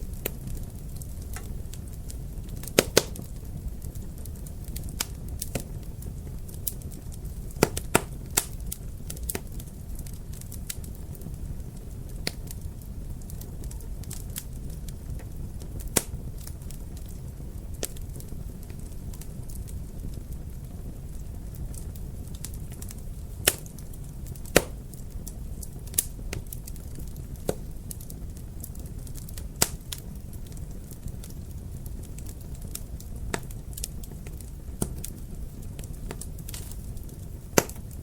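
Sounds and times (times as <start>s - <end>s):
fire popping and snapping: 0.0s - 38.0s
wood fire crackling: 0.0s - 38.0s.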